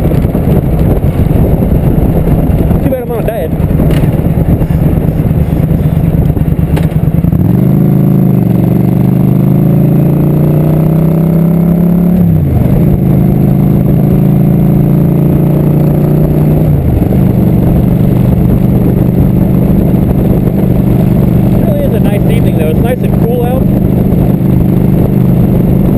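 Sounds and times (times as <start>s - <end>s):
motorcycle engine shifting gears: 0.0s - 25.9s
road noise: 0.0s - 25.9s
wind noise: 0.0s - 25.9s.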